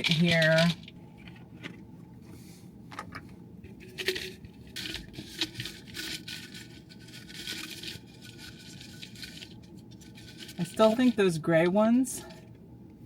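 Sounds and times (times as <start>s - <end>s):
plastic container handling noises: 0.0s - 11.2s.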